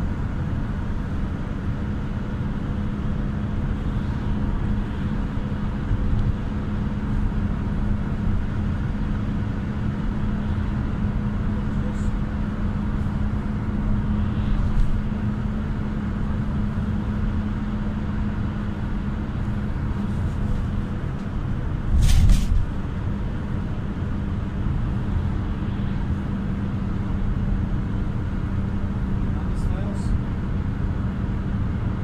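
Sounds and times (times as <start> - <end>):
engine hum: 0.0 - 32.0
road rumble: 0.0 - 32.0.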